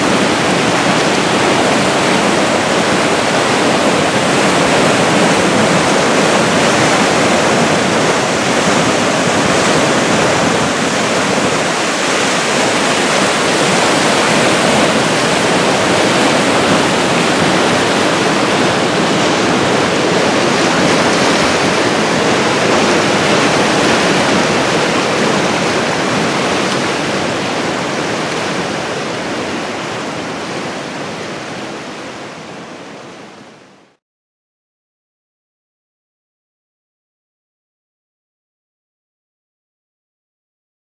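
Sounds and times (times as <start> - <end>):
rushing white water: 0.0 - 34.0.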